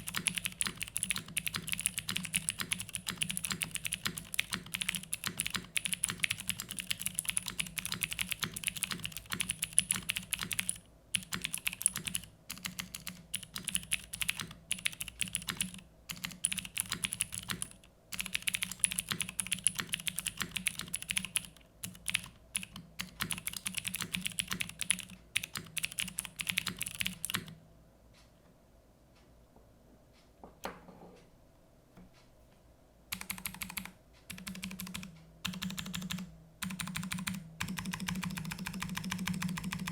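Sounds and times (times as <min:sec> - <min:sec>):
clicky mechanical keyboard typing: 0:00.0 - 0:27.6, 0:33.1 - 0:39.9.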